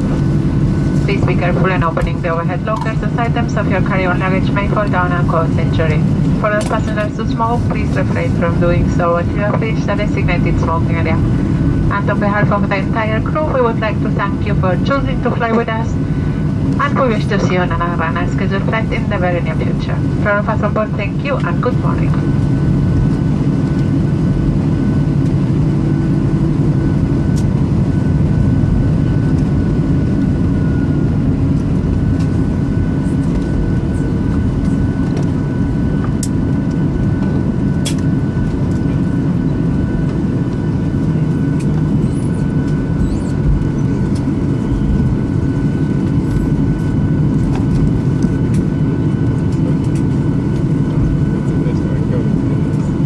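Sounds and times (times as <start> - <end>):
faint steady whine: 0.0 - 53.0
jet engines idling: 0.0 - 53.0.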